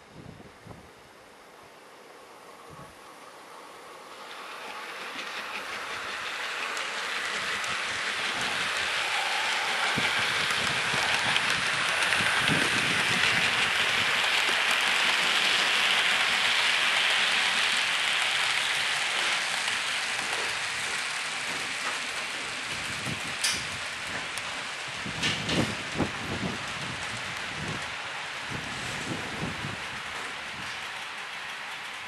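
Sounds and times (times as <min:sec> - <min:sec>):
model trains running on rails: 0:01.1 - 0:32.0.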